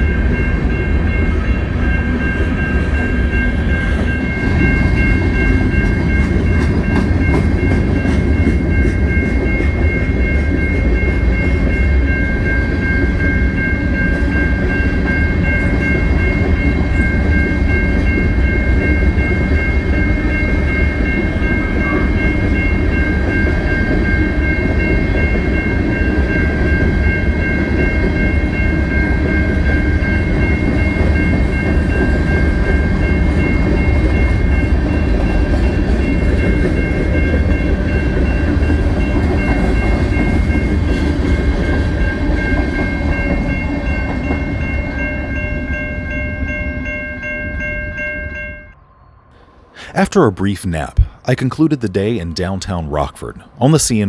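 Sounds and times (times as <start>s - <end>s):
train wheels rumbling on rail: 0.0s - 48.2s
high ringing tones: 0.0s - 49.4s.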